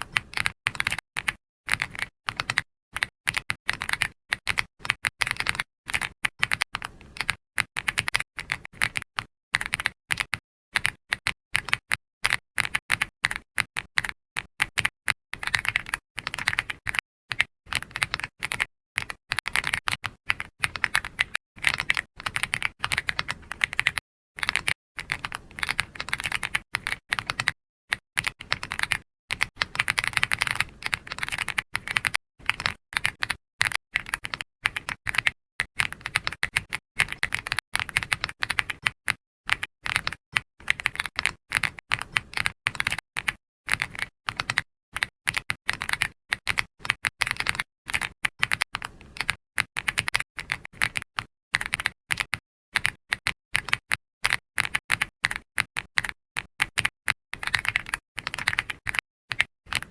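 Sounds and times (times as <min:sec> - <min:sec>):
keyboard typing clicks: 0:00.1 - 0:59.9.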